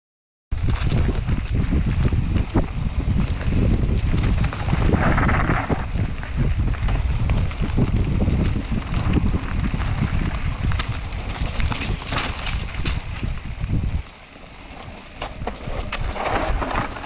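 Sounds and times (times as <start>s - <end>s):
bike rattling over rough ground: 0.5s - 17.0s
wind buffeting microphone: 0.5s - 17.0s.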